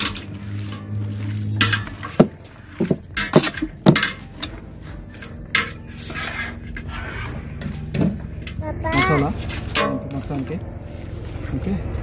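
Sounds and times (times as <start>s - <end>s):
low steady hum: 0.0s - 12.0s
metal skimmer scraping a pot: 0.0s - 12.0s.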